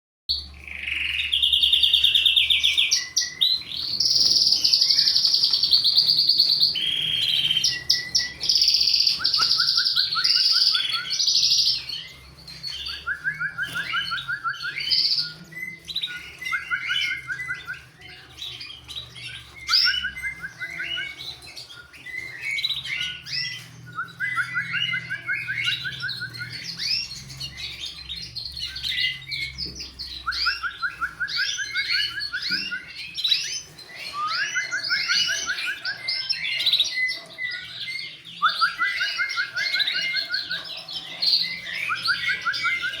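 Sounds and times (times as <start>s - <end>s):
canaries singing and chirping: 0.3s - 43.0s.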